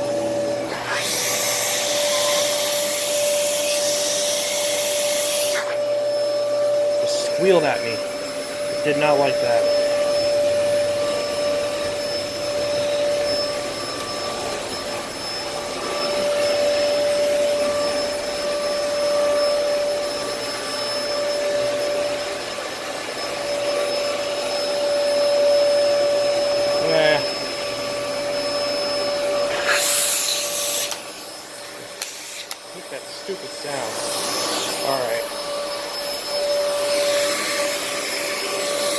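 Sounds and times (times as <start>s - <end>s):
wavering squeal: 0.0s - 22.4s, 23.3s - 38.9s
vacuum cleaner motor whine: 0.0s - 38.9s.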